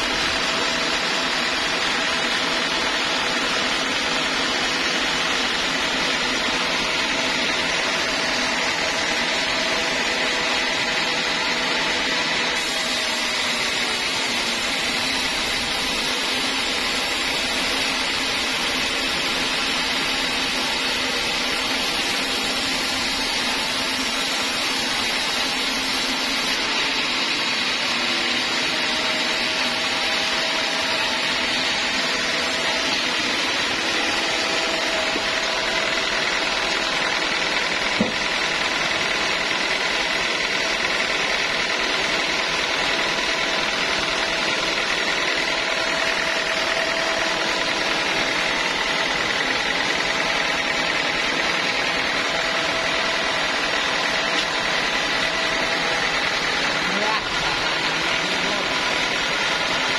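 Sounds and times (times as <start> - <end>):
band saw machine running: 0.0 - 59.9.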